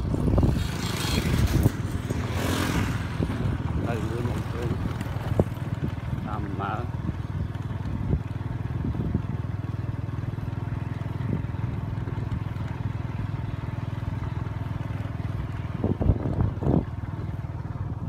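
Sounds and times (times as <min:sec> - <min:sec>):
small motorbike engine running: 0:00.0 - 0:18.0.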